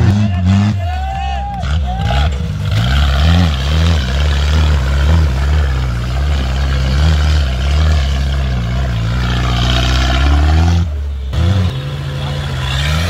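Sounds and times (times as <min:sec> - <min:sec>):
tractor engine running under load: 0:02.1 - 0:13.0.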